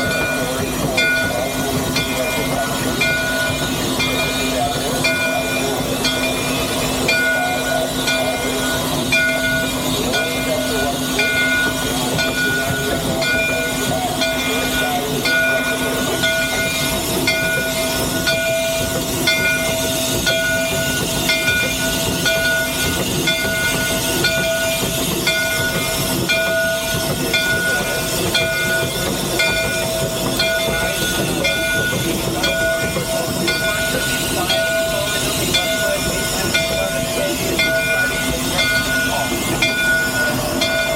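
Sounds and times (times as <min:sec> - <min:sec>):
steam locomotive mechanical din: 0:00.0 - 0:40.9.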